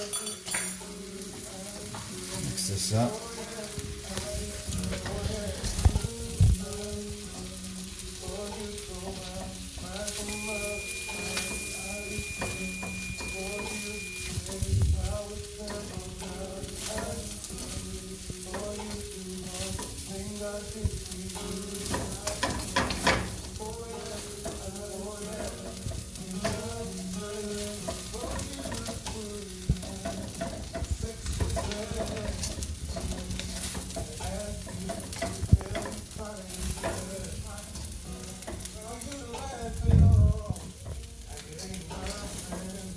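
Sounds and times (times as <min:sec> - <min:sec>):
rice sizzling in a hot pan: 0:00.0 - 0:42.9
spatula scraping a pan: 0:03.2 - 0:39.8.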